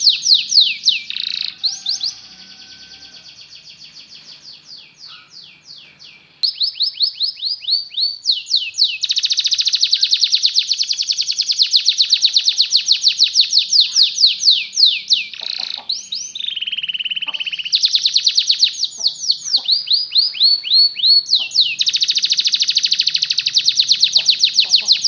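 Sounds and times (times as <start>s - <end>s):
canary singing: 0.0s - 25.0s.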